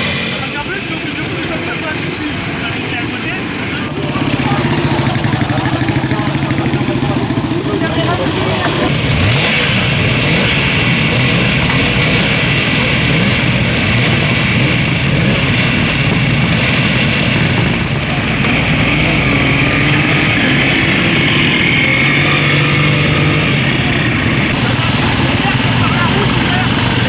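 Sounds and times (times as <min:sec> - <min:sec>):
vintage vehicle engines running: 0:00.0 - 0:27.0.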